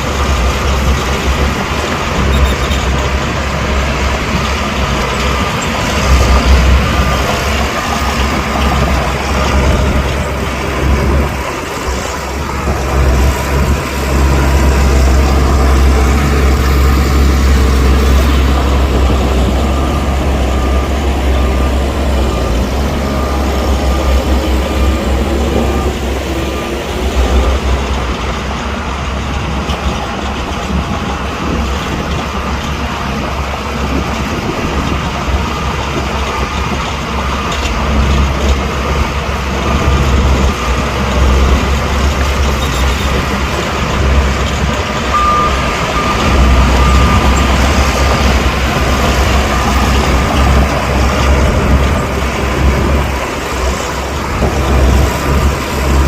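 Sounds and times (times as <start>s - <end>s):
heavy diesel machinery engine rumble: 0.0s - 56.0s
machinery rattling and clanking: 0.0s - 56.0s.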